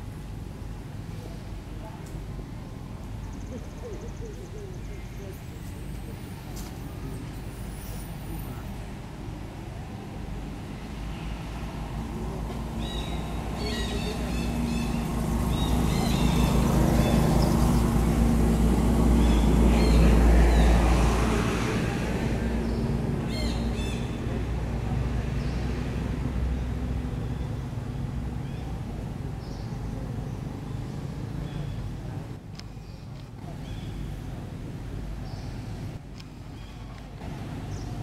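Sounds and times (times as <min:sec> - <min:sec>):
passing vehicle engine rumble: 0:00.0 - 0:38.0.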